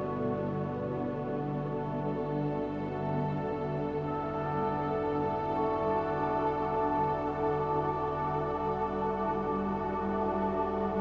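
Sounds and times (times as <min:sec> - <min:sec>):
ambient synthesizer drone music: 0:00.0 - 0:11.0.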